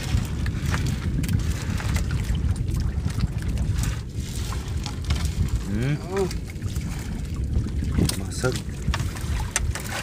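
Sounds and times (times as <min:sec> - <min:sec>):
sea water sloshing: 0:00.0 - 0:10.0
wind rumbling on microphone: 0:00.0 - 0:10.0.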